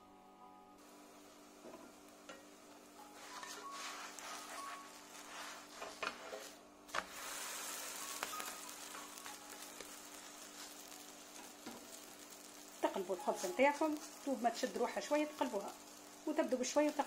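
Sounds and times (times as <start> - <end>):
flatbread sizzling in pan: 0.8 - 17.0.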